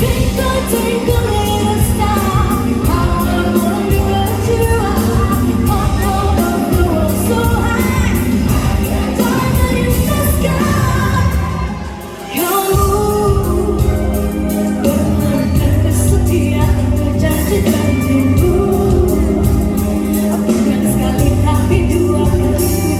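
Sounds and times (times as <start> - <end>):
live pop band playing: 0.0 - 22.9
woman singing: 0.0 - 22.9.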